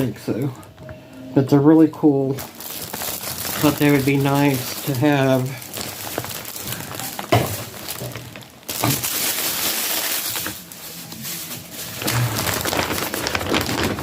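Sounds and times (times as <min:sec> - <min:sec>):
plastic packaging rustling: 0:01.9 - 0:14.0.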